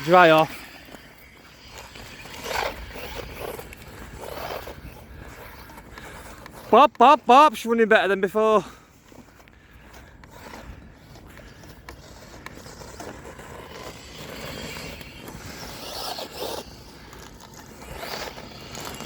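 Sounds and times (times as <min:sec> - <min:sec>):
rc motorbike tyres and motor: 0:00.0 - 0:19.0.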